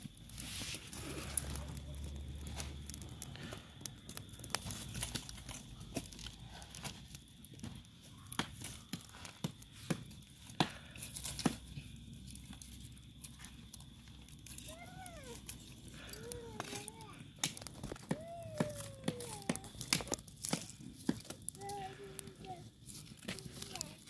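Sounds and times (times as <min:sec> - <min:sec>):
wood fire popping and crackling: 0:00.0 - 0:24.0.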